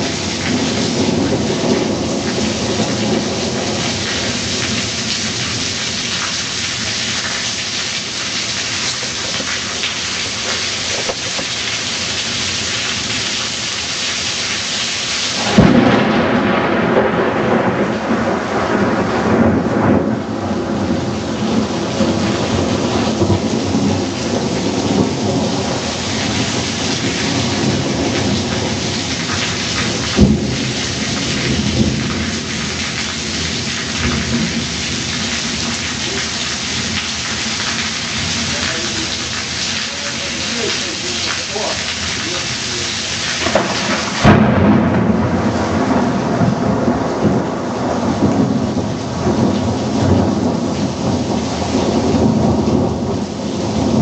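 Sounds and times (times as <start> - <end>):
thunder cracking and rumbling: 0.0 - 7.2, 15.3 - 42.3, 43.1 - 54.0
heavy rain: 0.0 - 54.0.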